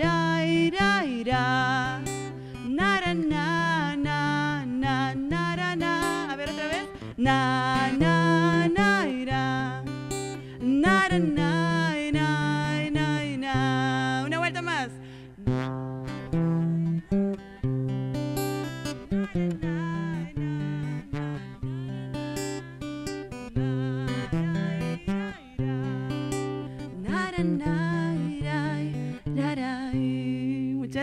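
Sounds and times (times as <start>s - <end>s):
person singing wordlessly: 0.0s - 9.9s, 10.6s - 15.0s, 19.1s - 31.0s
acoustic guitar playing: 0.0s - 31.0s.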